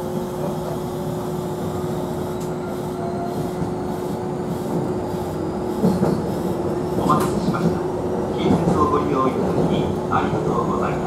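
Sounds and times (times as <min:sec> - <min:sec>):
electric train running rumble: 0:00.0 - 0:11.0.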